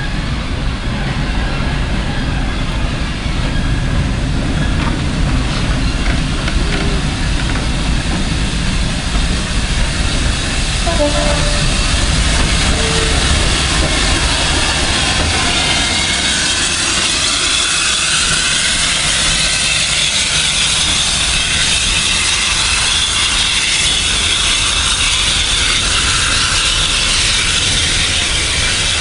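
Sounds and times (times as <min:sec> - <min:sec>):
train wheels rumbling: 0:00.0 - 0:29.0
wheels clickety-clack: 0:01.7 - 0:10.9, 0:12.0 - 0:29.0.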